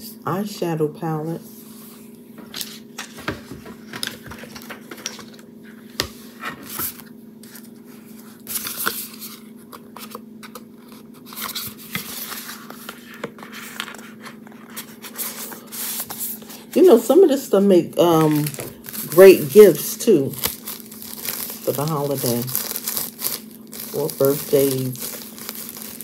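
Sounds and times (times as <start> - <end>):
faint steady hum: 0.0 - 26.0
packaging scraping and rustling: 2.4 - 17.0, 18.0 - 26.0.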